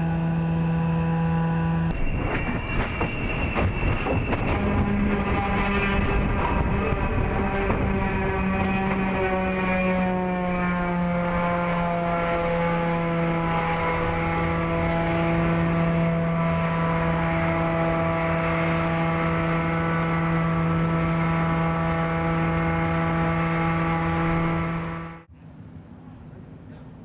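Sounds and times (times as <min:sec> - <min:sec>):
turbine engine droning: 0:00.0 - 0:27.0.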